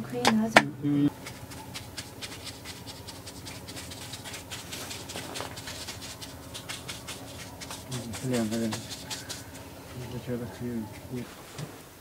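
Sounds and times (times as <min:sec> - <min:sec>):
brush tapping damp paper on stone: 0:01.1 - 0:11.3.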